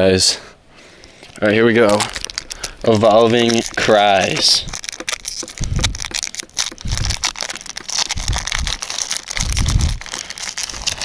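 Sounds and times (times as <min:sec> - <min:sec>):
foil wrapper crinkling: 0:00.9 - 0:11.0.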